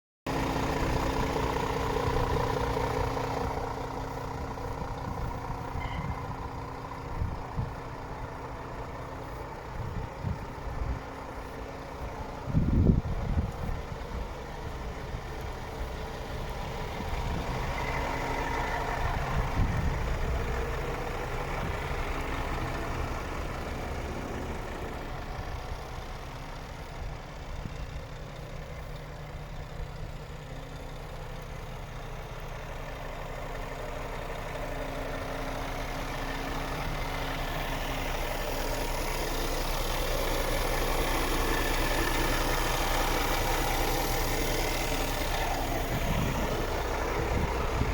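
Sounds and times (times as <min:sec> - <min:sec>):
diesel truck engine idling: 0:00.3 - 0:47.9.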